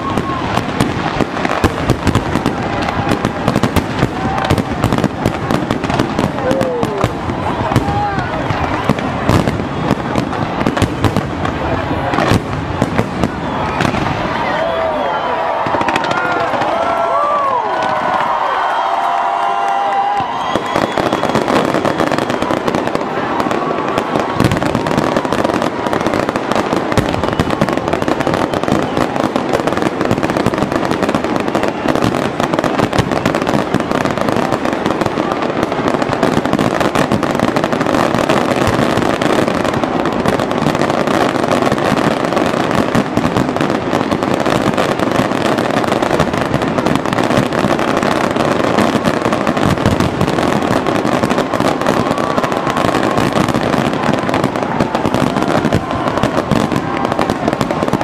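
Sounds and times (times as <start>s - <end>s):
deep firework booms: 0.0s - 14.4s, 20.5s - 58.0s
firecrackers crackling: 0.0s - 58.0s.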